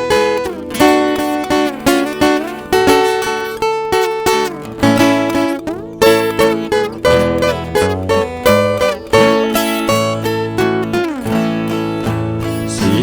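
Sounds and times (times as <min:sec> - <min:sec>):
strummed acoustic guitar: 0:00.0 - 0:13.0
viola picking melody: 0:00.0 - 0:13.0.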